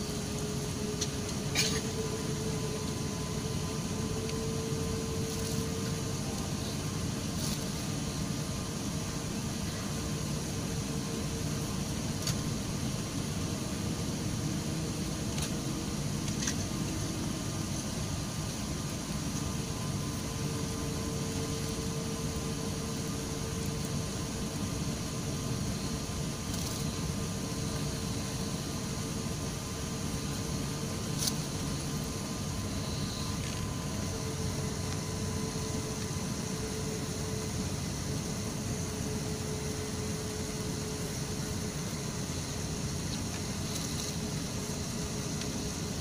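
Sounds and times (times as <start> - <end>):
airliner cabin engine hum: 0.0 - 46.0
faint steady tone: 0.0 - 46.0.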